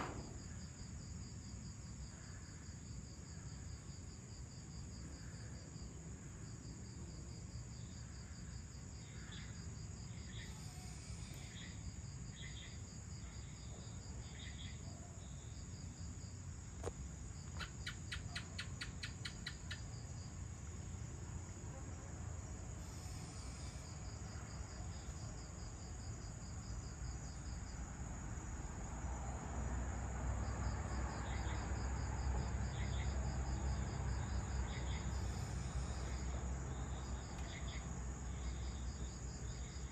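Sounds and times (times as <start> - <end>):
crickets and insects calling: 0.0 - 39.9.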